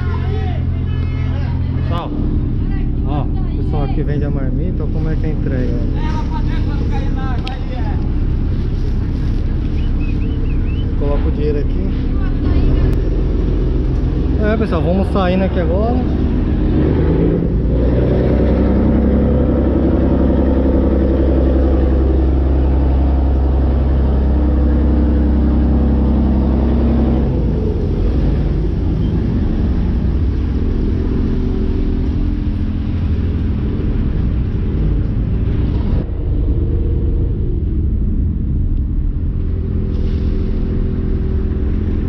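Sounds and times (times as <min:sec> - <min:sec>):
boat engine droning: 0:00.0 - 0:42.0.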